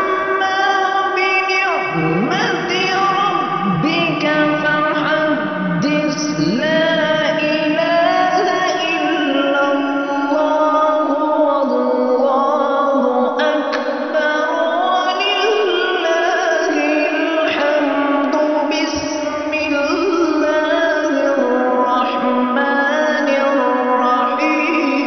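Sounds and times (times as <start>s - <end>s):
person reciting melodically: 0.0s - 25.0s.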